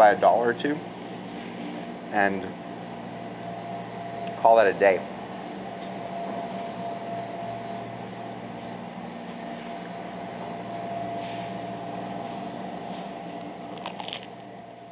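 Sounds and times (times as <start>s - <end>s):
machinery hum with whine: 0.0s - 14.9s.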